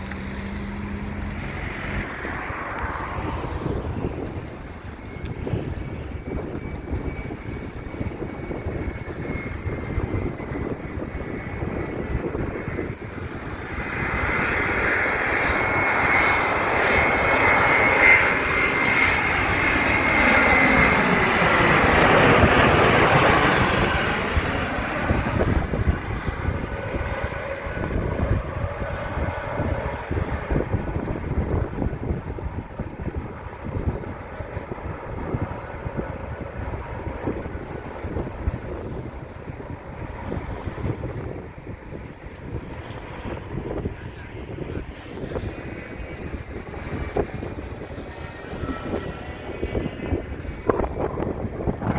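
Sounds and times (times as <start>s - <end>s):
airliner engines passing: 0.0s - 51.9s
wind buffeting microphone: 0.0s - 51.9s.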